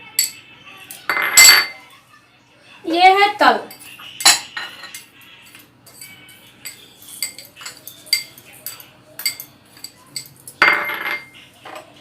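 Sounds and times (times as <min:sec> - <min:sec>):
metal spoon clinking on steel bowls: 0:00.0 - 0:01.8, 0:03.6 - 0:11.9.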